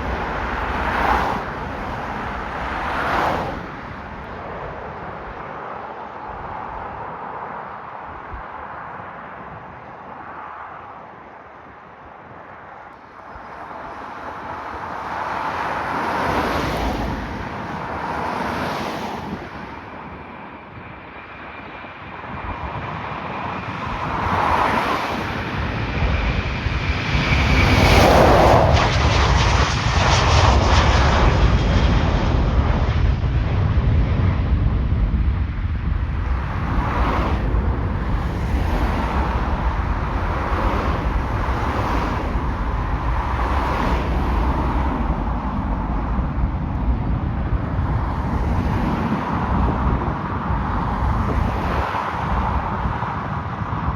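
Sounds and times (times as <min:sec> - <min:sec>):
aircraft engines passing: 0:00.0 - 0:53.9.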